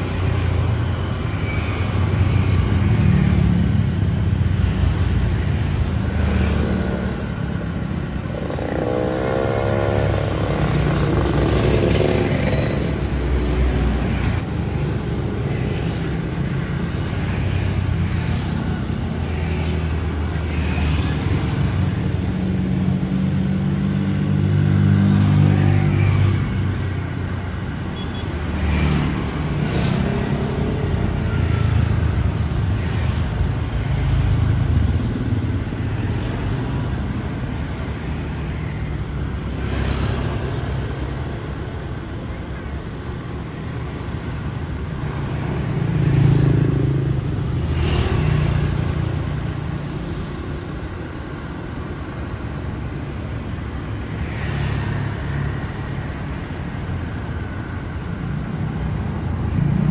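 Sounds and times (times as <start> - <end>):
scooters and cars driving past: 0.0 - 59.9.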